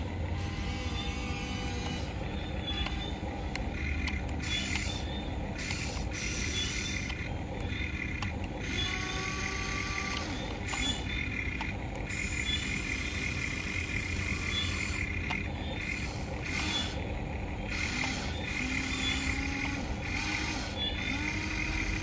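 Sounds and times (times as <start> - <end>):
electric motors whirring: 0.0 - 22.0.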